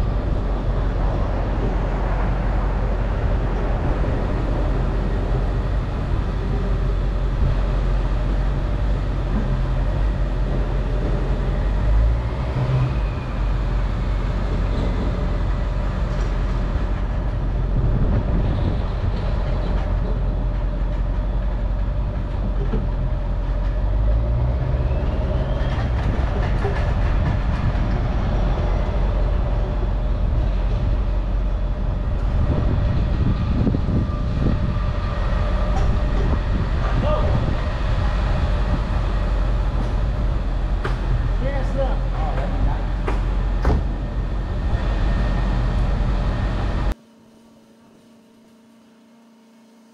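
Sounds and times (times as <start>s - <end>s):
low mechanical rumble: 0.0s - 49.9s.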